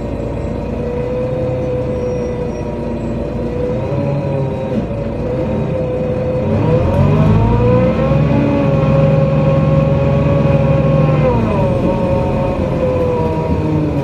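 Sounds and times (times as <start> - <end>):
bus engine hum: 0.0 - 14.0
drivetrain whine: 0.0 - 14.0.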